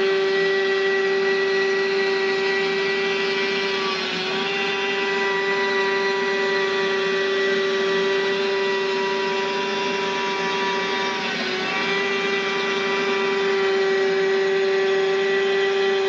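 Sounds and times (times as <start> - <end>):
milling machine spindle humming: 0.0 - 16.0.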